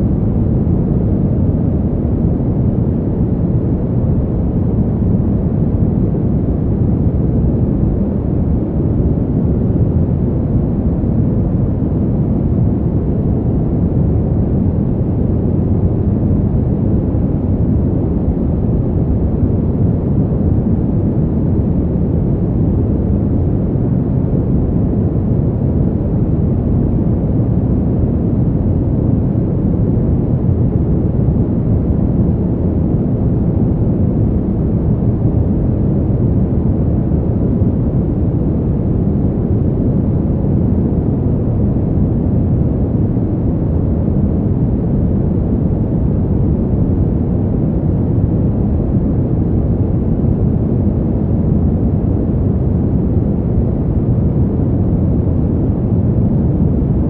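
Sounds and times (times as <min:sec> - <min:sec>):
deep rush of wind: 0:00.0 - 0:57.0.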